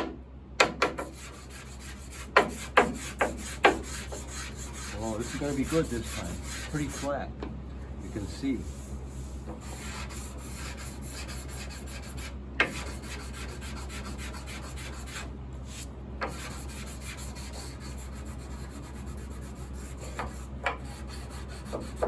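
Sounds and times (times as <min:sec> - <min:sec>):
sandpaper rubbing on wood: 0:01.0 - 0:07.2, 0:08.1 - 0:22.0.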